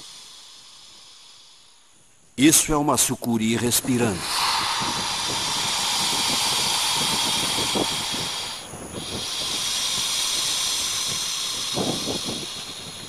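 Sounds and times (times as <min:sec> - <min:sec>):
snake hissing breath: 0:00.0 - 0:02.1, 0:03.9 - 0:13.0.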